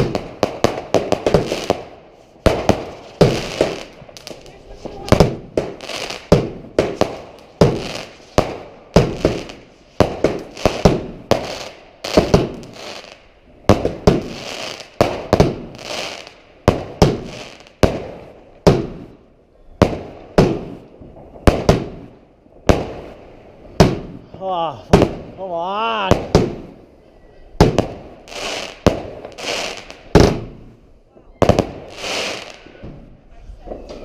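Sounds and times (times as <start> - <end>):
fireworks bangs with crackling hiss: 0.0 - 34.0.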